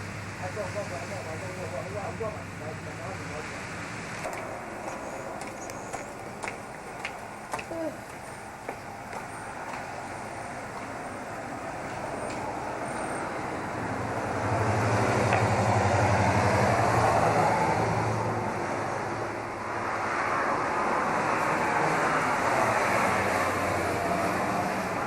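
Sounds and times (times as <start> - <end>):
moving vehicle road noise: 0.0 - 25.0.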